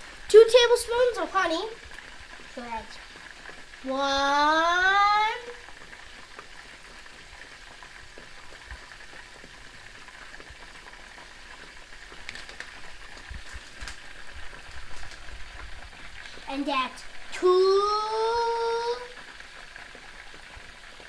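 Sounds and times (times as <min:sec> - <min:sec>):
food sizzling: 0:00.0 - 0:21.0.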